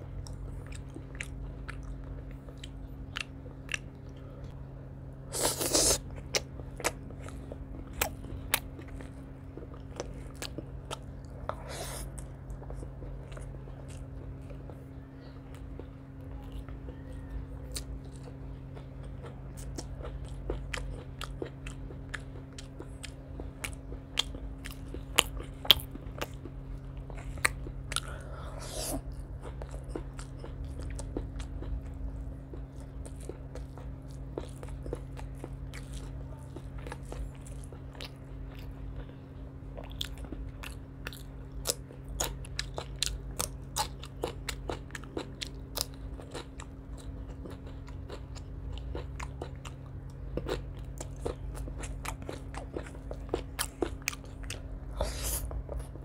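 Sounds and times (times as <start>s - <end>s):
low steady hum: 0.0s - 56.0s
chewing crisp crunches: 0.1s - 4.6s, 5.3s - 56.0s.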